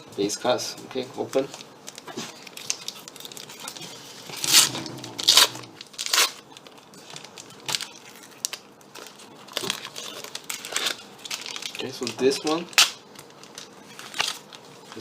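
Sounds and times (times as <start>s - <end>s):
card pack wrapper tearing and crinkling: 1.2s - 15.0s.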